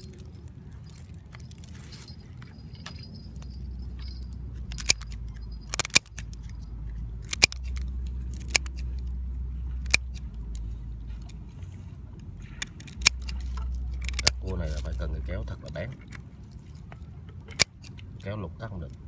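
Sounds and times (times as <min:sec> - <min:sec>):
low rumble: 0:00.0 - 0:16.6.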